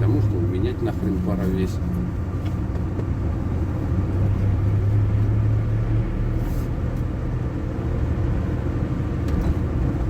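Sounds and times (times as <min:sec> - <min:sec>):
road noise: 0:00.0 - 0:10.0
van engine drone: 0:00.0 - 0:10.0.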